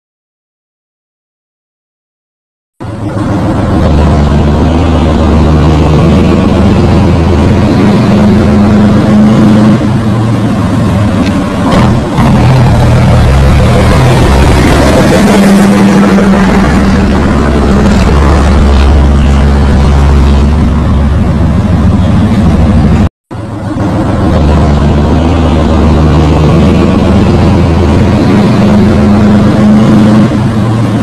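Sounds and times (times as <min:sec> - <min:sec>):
truck diesel engine driving: 0:02.8 - 0:31.0.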